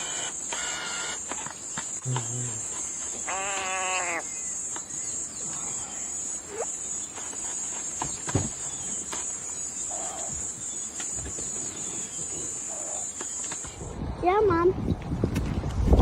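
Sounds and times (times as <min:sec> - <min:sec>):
crickets chirping: 0:00.0 - 0:13.8.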